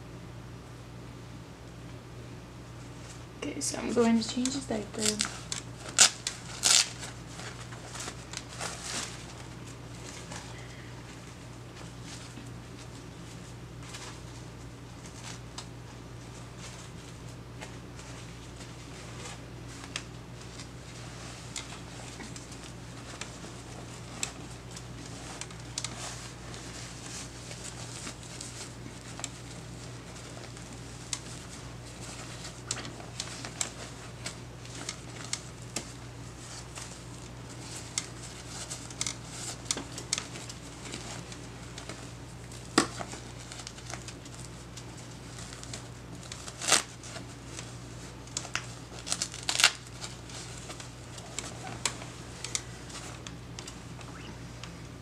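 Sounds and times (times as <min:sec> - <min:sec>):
diaper crinkling and rustling: 0:03.0 - 0:54.3.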